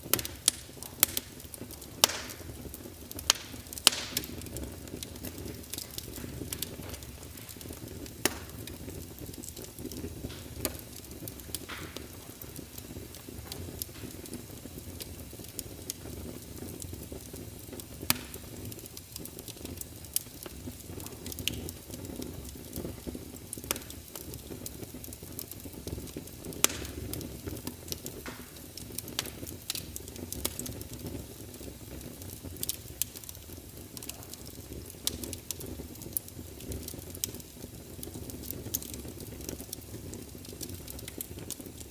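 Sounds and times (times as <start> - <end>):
fire pops: 0.0 - 41.9
wood fire crackling: 0.0 - 41.9.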